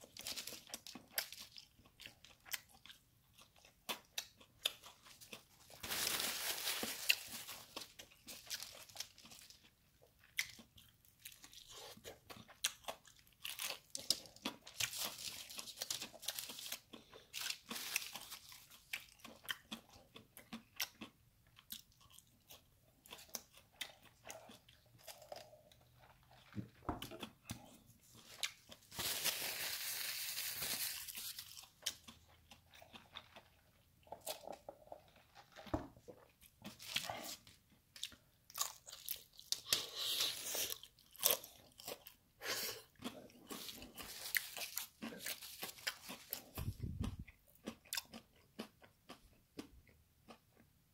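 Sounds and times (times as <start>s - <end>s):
crunching of fried food: 0.0s - 50.7s.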